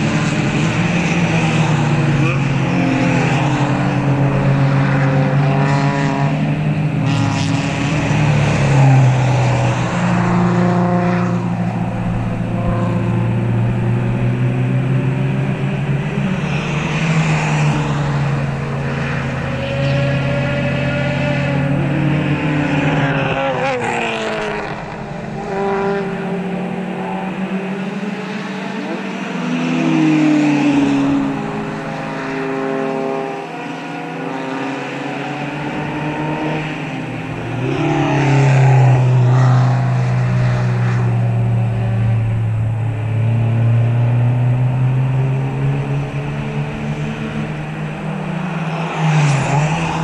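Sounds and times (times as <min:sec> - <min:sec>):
race cars passing at speed: 0:00.0 - 0:50.0.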